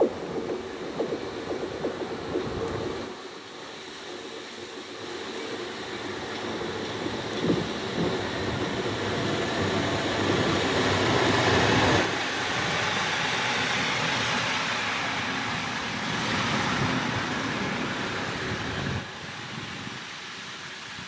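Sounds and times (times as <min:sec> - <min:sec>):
wheels rolling on rails: 0:00.0 - 0:19.1
rail vehicle engine running: 0:00.0 - 0:21.0.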